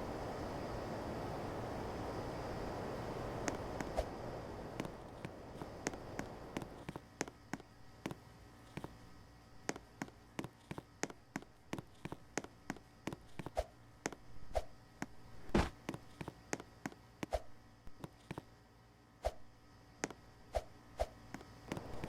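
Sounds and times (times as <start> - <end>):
faint steady low hum: 0.0 - 22.0.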